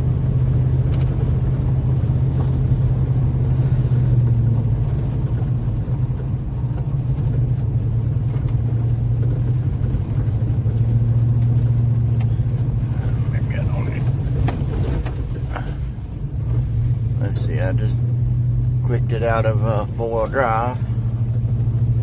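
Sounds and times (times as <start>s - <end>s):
engine and road noise drone: 0.0s - 22.0s.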